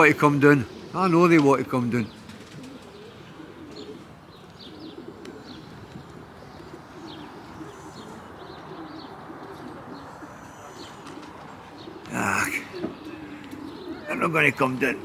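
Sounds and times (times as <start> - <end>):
pigeons cooing: 0.0 - 15.0
small birds chirping: 0.0 - 15.0.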